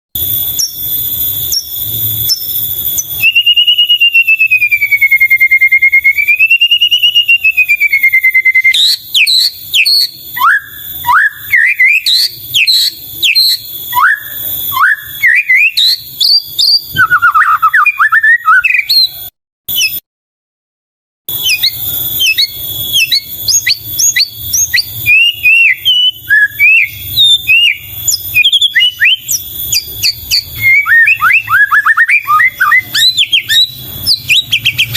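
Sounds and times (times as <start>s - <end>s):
bird singing whistles: 0.2s - 20.0s, 21.3s - 34.9s.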